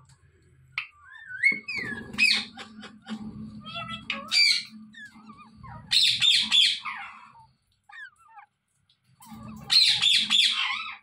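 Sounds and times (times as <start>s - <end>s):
parrots chirping and squawking: 0.8s - 11.0s.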